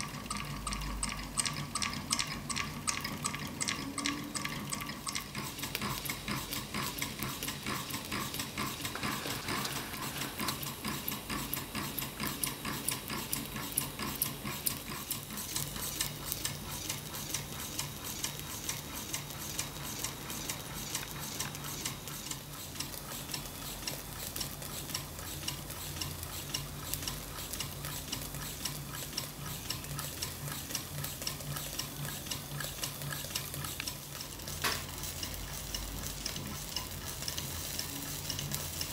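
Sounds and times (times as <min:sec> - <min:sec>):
engine rapid clicking: 0:00.0 - 0:38.9.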